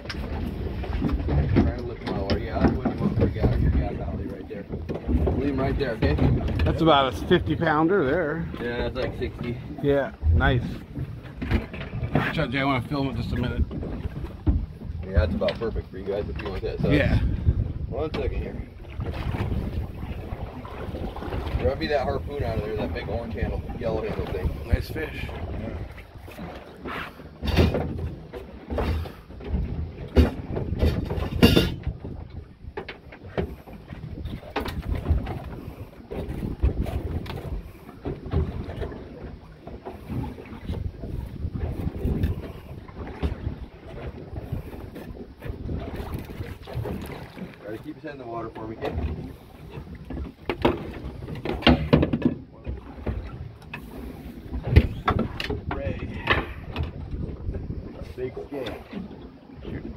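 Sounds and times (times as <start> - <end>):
water slapping against boat: 0.0 - 59.9
wind buffeting microphone: 0.0 - 59.9.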